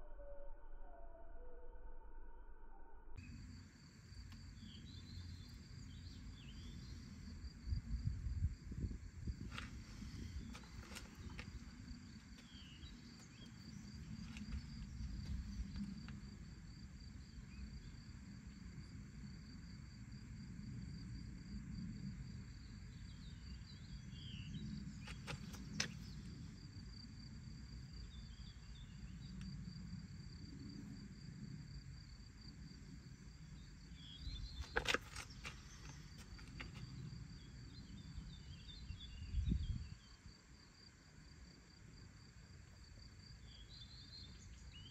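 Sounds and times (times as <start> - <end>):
low wind rumble: 3.3 - 40.2.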